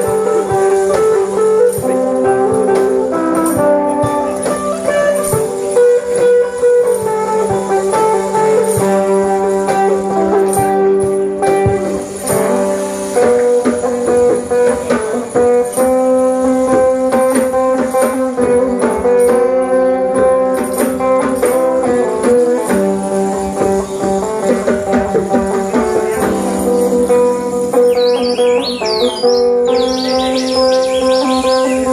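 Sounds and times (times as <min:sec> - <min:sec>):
plucked lute melody: 0:00.0 - 0:31.9.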